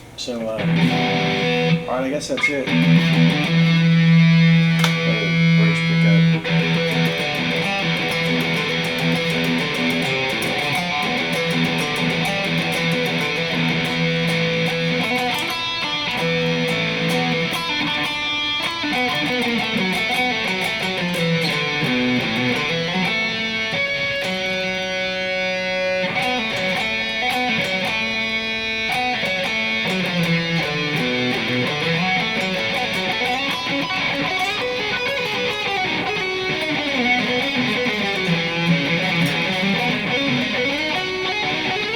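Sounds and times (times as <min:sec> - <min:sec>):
electric guitar fast riffs: 0:00.0 - 0:41.9.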